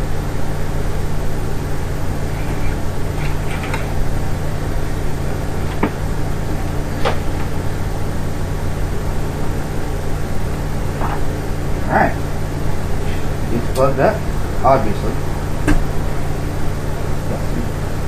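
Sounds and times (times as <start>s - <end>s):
tape recorder motor hum: 0.0s - 18.0s.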